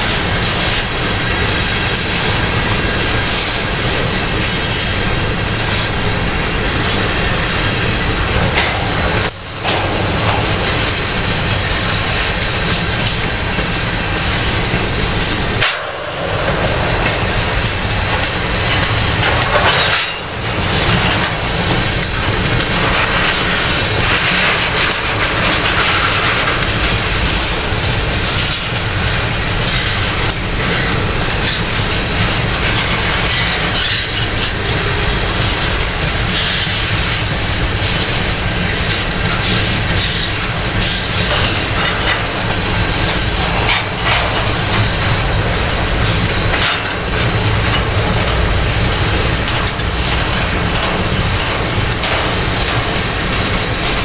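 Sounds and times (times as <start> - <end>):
freight train rolling past: 0.0 - 54.0
wheels clicking over rail joints: 0.0 - 54.0
wind buffeting microphone: 0.0 - 54.0.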